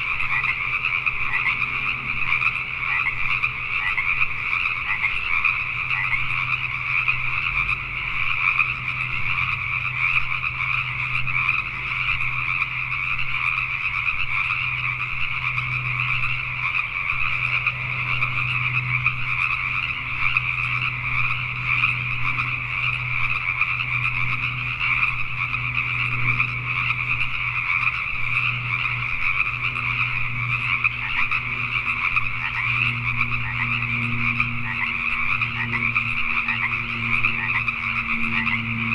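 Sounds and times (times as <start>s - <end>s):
chorus of tree frogs croaking: 0.0s - 38.9s
faint low hum: 0.0s - 38.9s.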